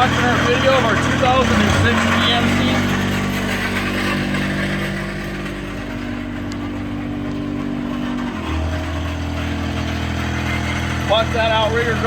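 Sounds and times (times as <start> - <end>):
small motor running steadily: 0.0 - 12.0.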